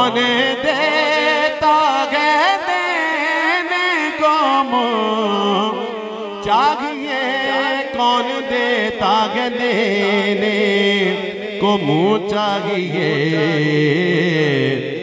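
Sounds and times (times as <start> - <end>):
man singing into microphone: 0.0 - 15.0.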